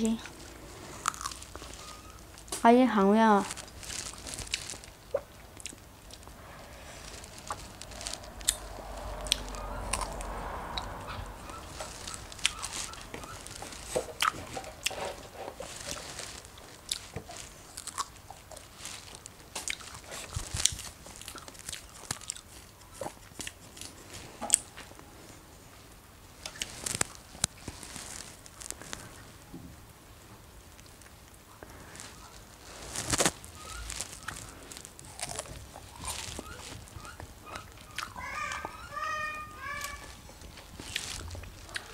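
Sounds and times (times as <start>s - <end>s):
person chewing strawberries: 0.0s - 2.6s, 3.3s - 24.8s, 26.4s - 29.3s, 30.8s - 38.8s, 39.7s - 41.9s.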